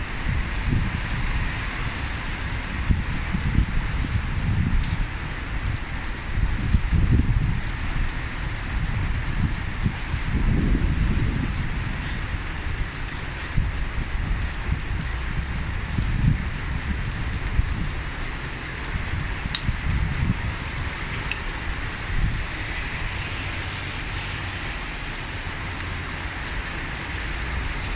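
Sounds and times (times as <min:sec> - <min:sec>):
heavy rain splashing: 0:00.0 - 0:27.9.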